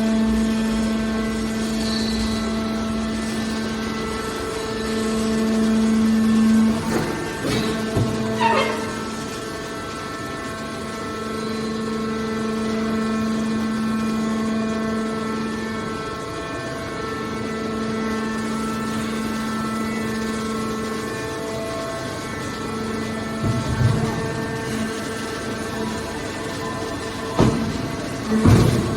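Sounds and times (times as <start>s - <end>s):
hydraulic machine hum: 0.0s - 28.9s.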